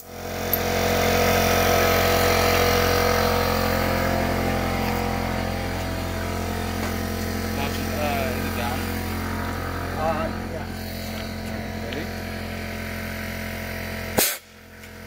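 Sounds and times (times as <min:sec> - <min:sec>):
air compressor motor running: 0:00.0 - 0:15.0.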